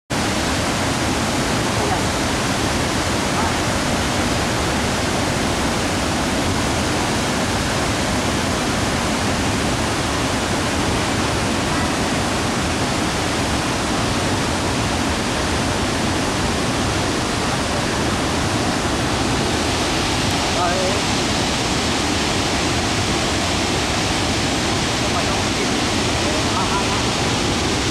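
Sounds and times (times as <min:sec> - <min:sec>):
waterfall roaring: 0:00.1 - 0:27.9.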